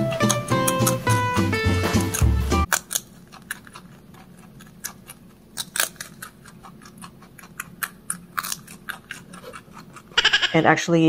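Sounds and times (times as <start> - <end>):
rabbit chewing crunchy stalk: 0.0 - 10.4.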